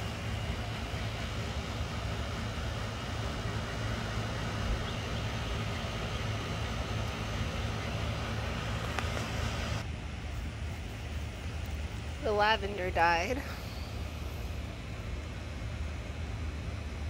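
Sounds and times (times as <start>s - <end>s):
distant traffic: 0.0s - 17.0s.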